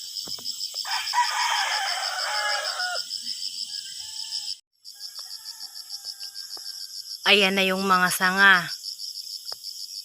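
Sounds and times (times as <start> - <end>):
pulsing insect chirping: 0.0 - 10.0.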